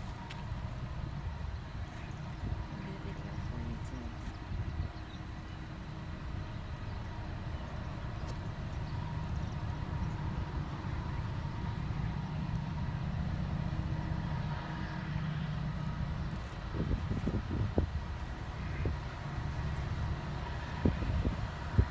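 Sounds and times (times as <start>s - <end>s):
diesel locomotive engine rumble: 0.0s - 21.9s.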